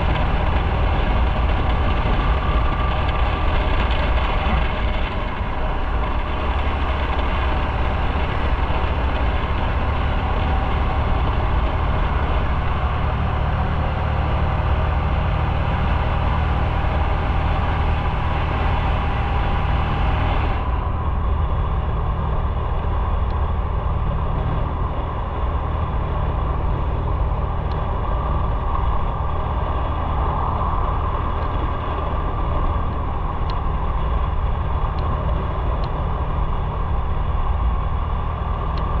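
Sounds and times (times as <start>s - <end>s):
motorcycle engine running: 0.0s - 39.0s
road noise hiss: 0.0s - 39.0s.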